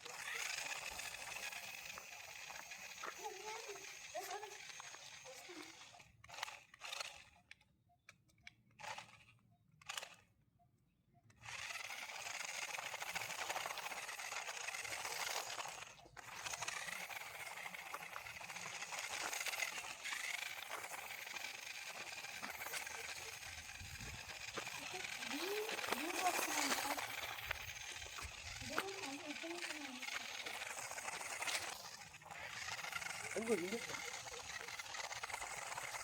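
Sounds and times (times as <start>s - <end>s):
small motor running with whine: 0.0s - 10.4s, 11.2s - 36.0s.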